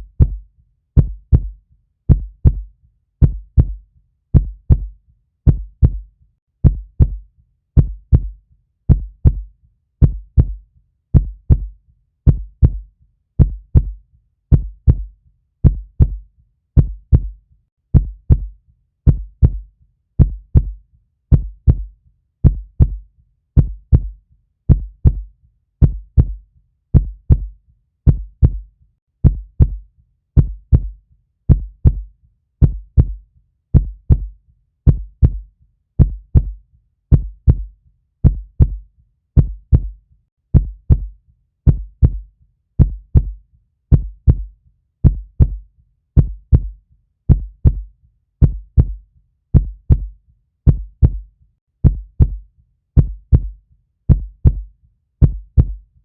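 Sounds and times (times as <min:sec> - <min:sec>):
heartbeat thumps: 0:00.0 - 0:00.4, 0:01.0 - 0:07.2, 0:07.8 - 0:16.2, 0:16.8 - 0:23.0, 0:23.6 - 0:29.8, 0:30.4 - 0:38.8, 0:39.4 - 0:45.6, 0:46.2 - 0:49.0, 0:49.6 - 0:52.4, 0:53.0 - 0:55.8.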